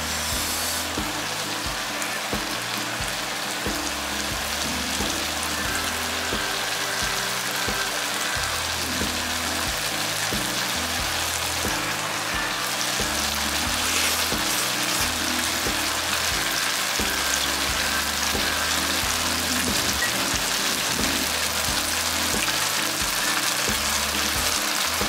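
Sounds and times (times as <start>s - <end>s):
background music with beat: 0.0s - 25.0s
food sizzling in a frying pan: 0.0s - 25.0s.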